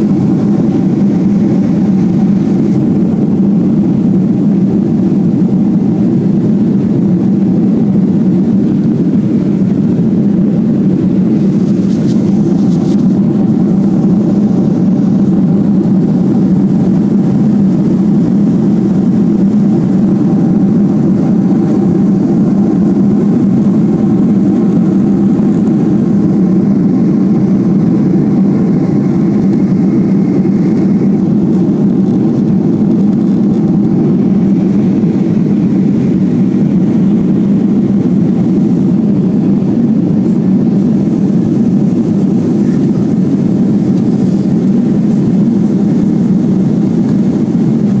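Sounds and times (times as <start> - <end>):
jet engine drone in cabin: 0.0 - 48.0.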